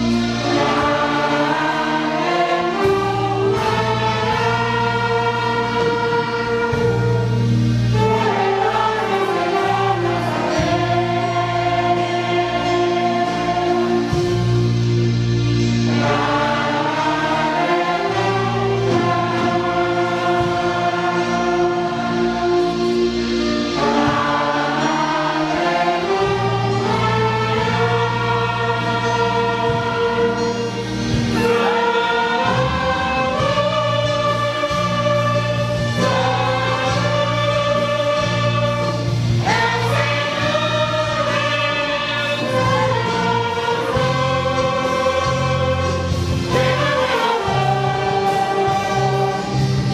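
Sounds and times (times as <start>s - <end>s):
orchestra playing a hymn: 0.0s - 49.9s.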